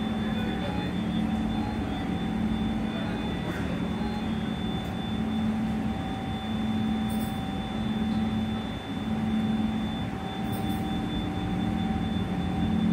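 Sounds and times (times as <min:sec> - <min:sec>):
machine hum with high whine: 0:00.0 - 0:12.9.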